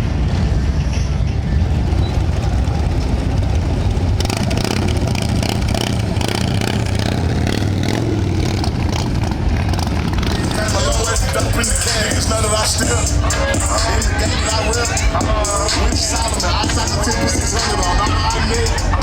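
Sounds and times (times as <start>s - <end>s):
motorcycle engines rumbling: 0.0s - 19.0s.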